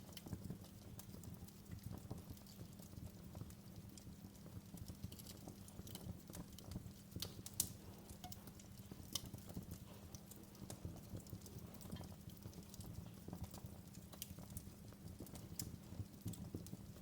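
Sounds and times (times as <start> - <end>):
sharp snaps and pops: 0.0 - 17.0
wood fire crackling: 0.0 - 17.0.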